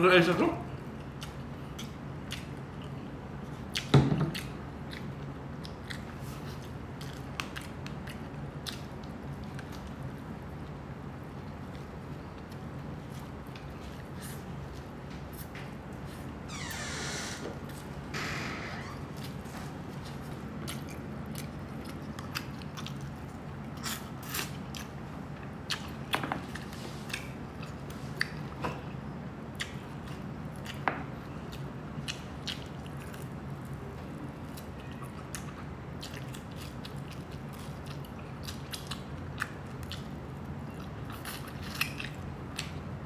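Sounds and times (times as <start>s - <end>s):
steady low hum: 0.0s - 43.0s
person chewing crispy food: 0.8s - 16.2s, 19.1s - 28.6s, 29.5s - 42.9s.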